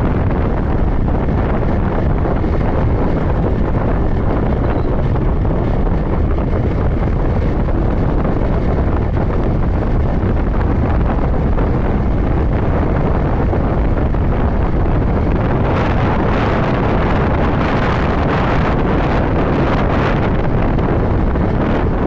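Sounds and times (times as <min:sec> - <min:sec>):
motorcycle engine running: 0:00.0 - 0:22.0
wind rush on microphone: 0:00.0 - 0:22.0.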